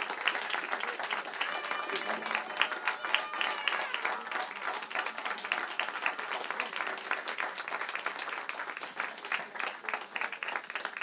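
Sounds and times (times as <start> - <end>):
congregation applauding: 0.0 - 11.0.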